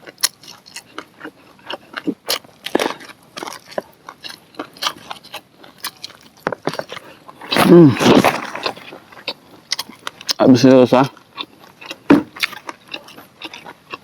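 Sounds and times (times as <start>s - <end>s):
chewing corn on the cob: 0.0s - 14.0s.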